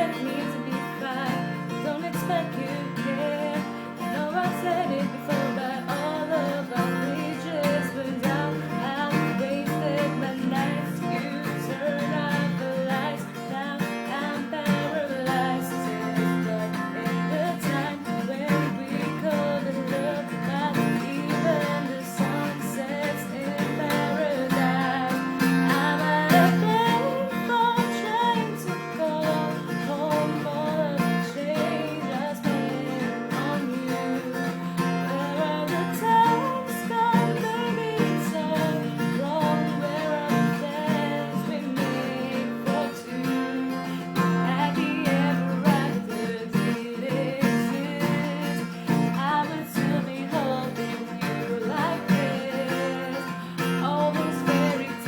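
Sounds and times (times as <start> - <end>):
strummed acoustic guitar: 0.0 - 55.0
woman singing pop song: 0.0 - 55.0.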